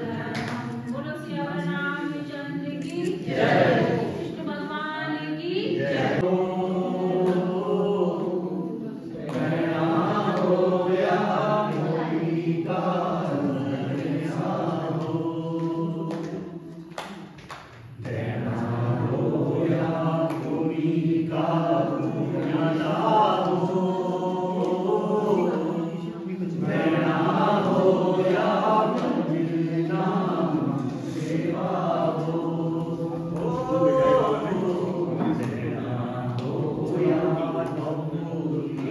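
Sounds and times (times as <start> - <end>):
men singing a chant-like prayer: 5.7 - 16.6, 18.0 - 38.9.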